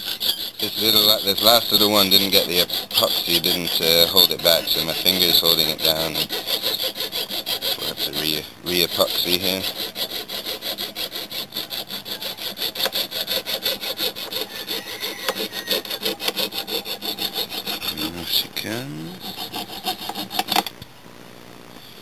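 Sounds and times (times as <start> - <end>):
hand saw cutting metal sheet: 0.0 - 20.7.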